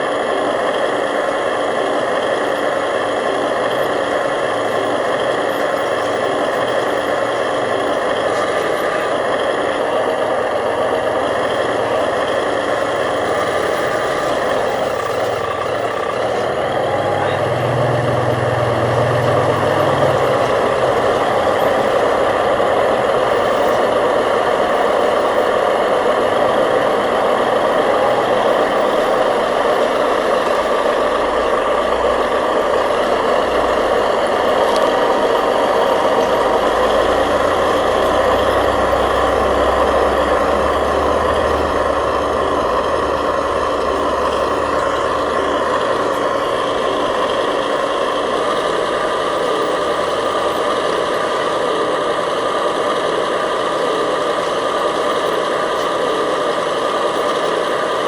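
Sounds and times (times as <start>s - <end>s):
small motors and gears droning: 0.0s - 58.0s.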